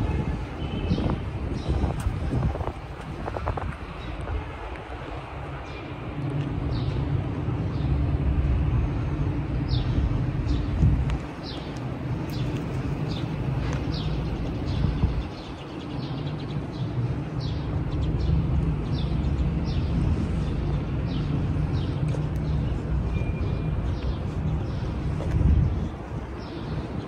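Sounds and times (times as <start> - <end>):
low rumble of city traffic: 0.0 - 27.0.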